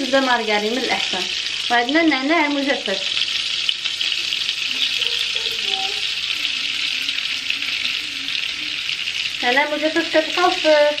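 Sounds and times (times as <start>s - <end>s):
butter sizzling in a frying pan: 0.0s - 11.0s.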